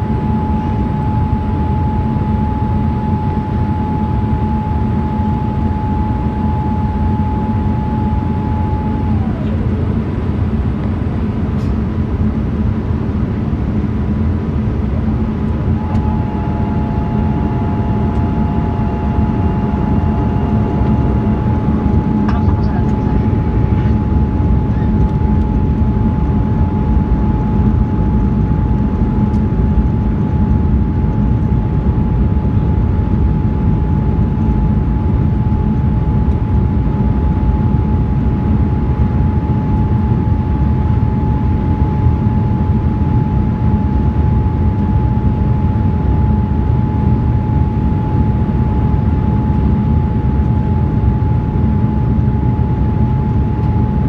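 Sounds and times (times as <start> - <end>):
constant whining tone: 0.0 - 54.0
jet engines and rushing air rumble: 0.0 - 54.0.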